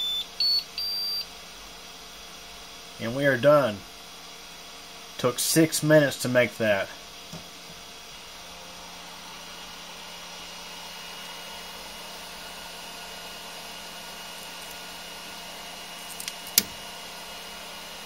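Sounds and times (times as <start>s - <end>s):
printer fans running: 0.0s - 18.0s.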